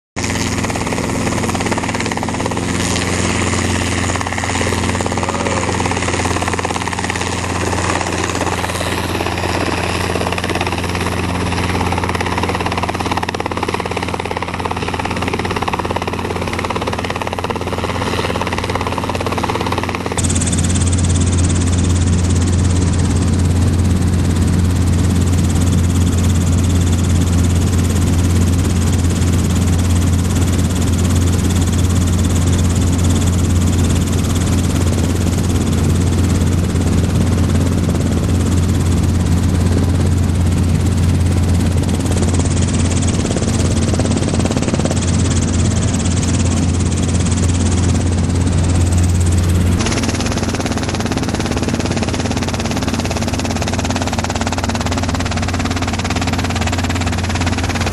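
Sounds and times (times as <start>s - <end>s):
helicopter engine and rotor drone: 0.2s - 57.9s.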